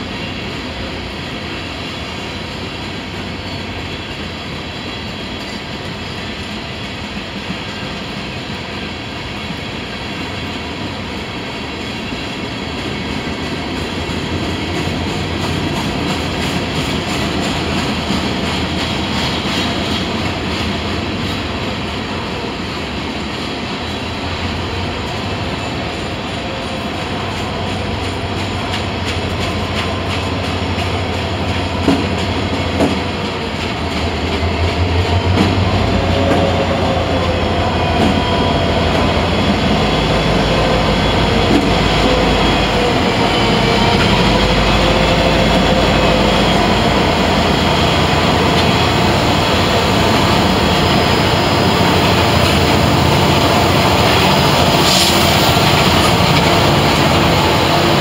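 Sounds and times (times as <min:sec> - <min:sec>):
diesel locomotive engine rumble: 0:00.0 - 0:58.0
wheels on rails: 0:04.8 - 0:58.0.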